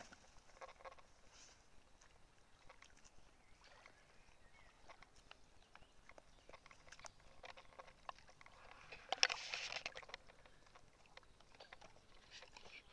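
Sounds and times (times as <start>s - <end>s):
small water splashes: 0.0s - 12.9s.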